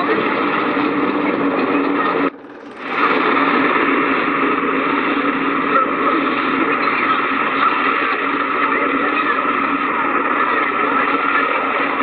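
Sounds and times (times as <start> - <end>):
hovercraft turbine whine: 0.0 - 12.0.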